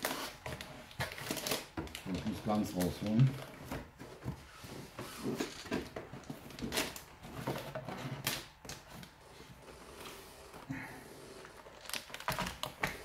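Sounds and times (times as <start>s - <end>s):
packaging rustling and clicking: 0.0s - 9.2s, 11.6s - 13.0s.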